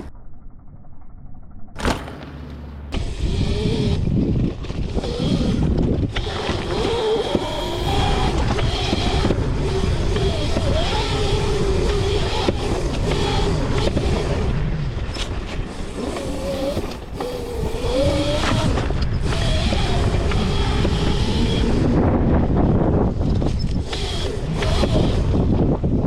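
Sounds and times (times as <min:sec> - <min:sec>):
rumble of wind and dirt: 0:00.0 - 0:26.0
electric motor whining: 0:02.5 - 0:26.0.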